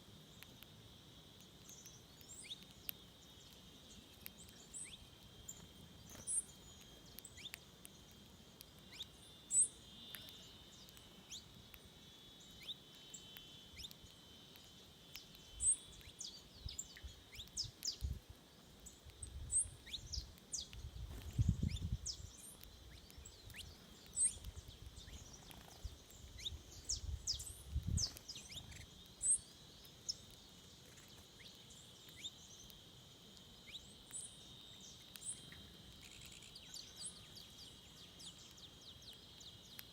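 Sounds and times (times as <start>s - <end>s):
insect buzz: 0.0s - 39.9s
birds chirping: 1.4s - 39.9s.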